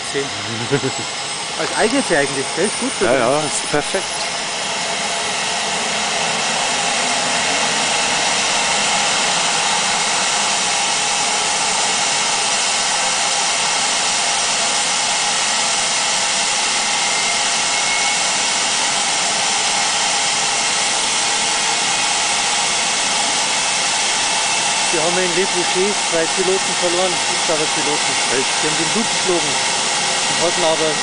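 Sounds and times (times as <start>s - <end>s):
helicopter turbine whine: 0.0s - 31.0s.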